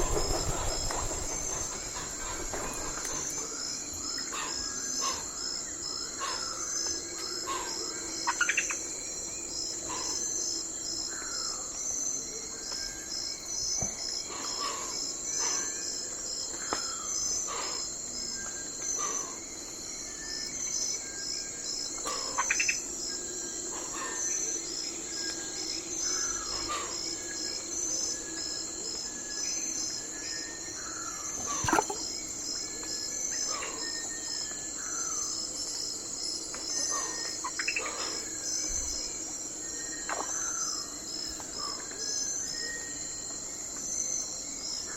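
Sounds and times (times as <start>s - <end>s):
crickets and insects chorus: 0.0s - 44.9s.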